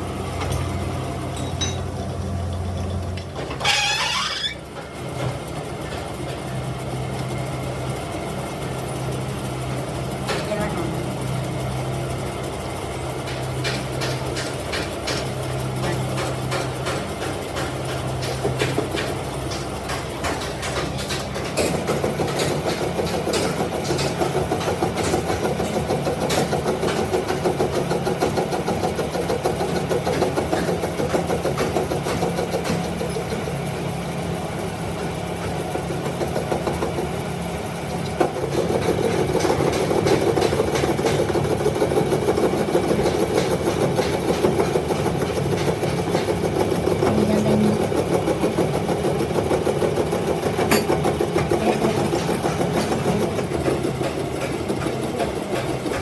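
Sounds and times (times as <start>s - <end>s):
workshop machinery humming: 0.0s - 56.0s.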